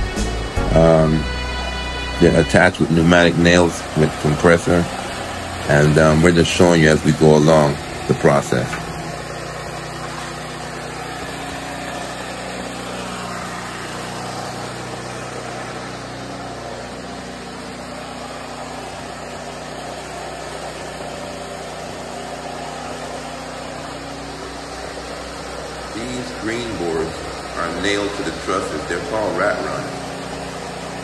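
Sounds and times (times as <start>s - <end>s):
air compressor motor hum: 0.0s - 31.0s.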